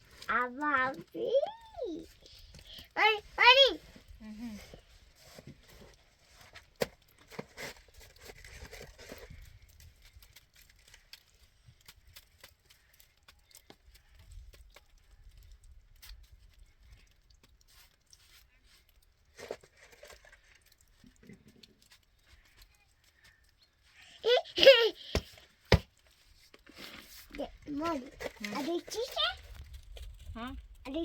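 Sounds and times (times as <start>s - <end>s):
rustles: 0.0s - 31.0s.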